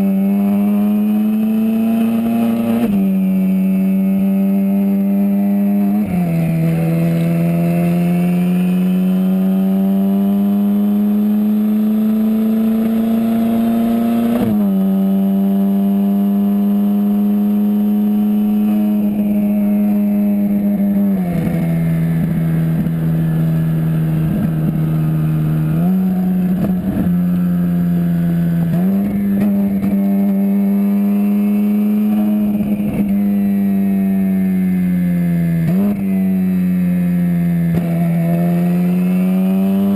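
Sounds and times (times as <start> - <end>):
sports car engine under load: 0.0 - 39.9.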